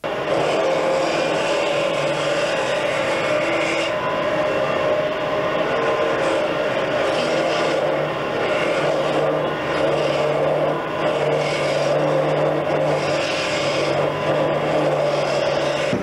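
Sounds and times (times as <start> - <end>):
turning tool cutting wood: 0.0 - 16.0
wood lathe motor hum: 0.0 - 16.0.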